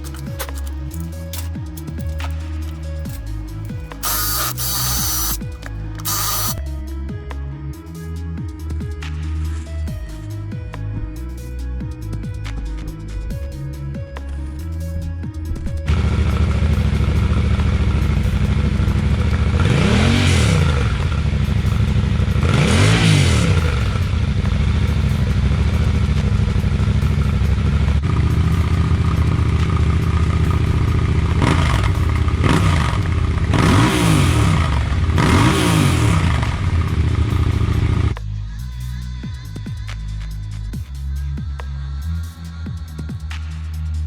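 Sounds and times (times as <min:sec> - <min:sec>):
motorcycle engine idling and revving: 0:00.0 - 0:07.4, 0:11.4 - 0:40.0.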